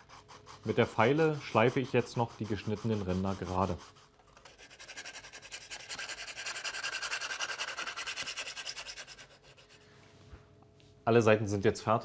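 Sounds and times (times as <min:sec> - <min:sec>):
hand file scraping plastic: 0:00.0 - 0:09.7.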